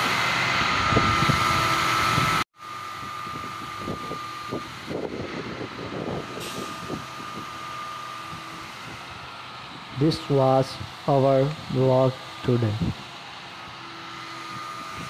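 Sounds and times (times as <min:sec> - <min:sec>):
pump machinery drone and whine: 0:00.0 - 0:15.0.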